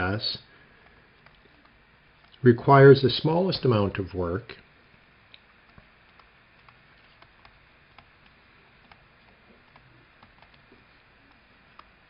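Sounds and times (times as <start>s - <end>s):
low room hiss: 0.0s - 12.0s.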